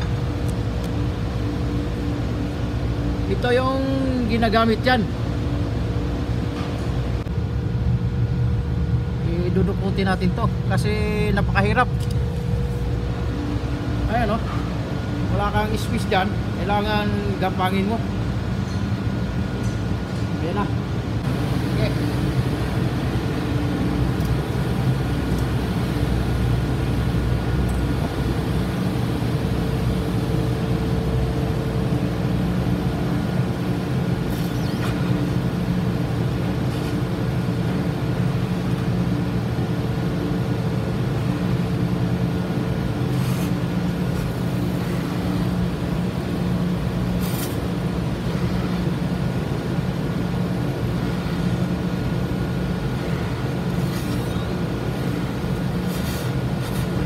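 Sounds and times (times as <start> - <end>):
engine room machinery drone: 0.0 - 57.0.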